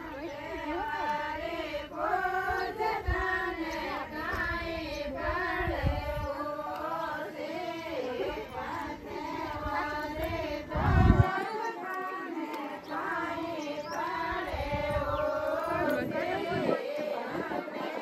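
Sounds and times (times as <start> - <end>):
women singing together: 0.0 - 18.0.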